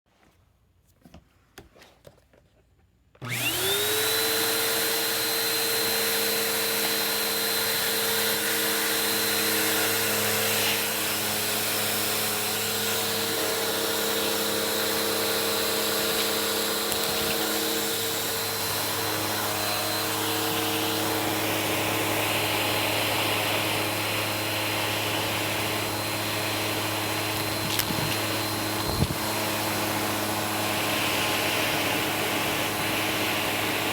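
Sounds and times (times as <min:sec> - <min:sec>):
vacuum cleaner motor whine: 0:03.2 - 0:33.9.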